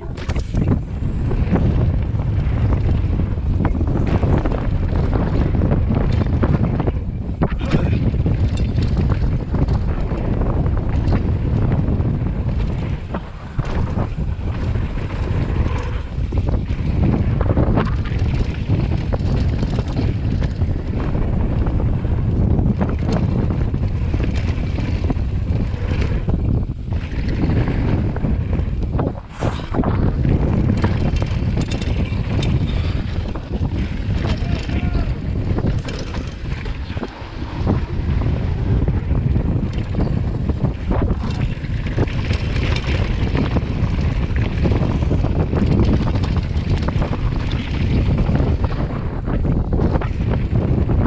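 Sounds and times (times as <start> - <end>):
bike knocks and rattles: 0.0 - 29.3, 29.9 - 51.0
tyres on hard-packed dirt: 0.0 - 51.0
wind rushing over microphone: 0.0 - 51.0.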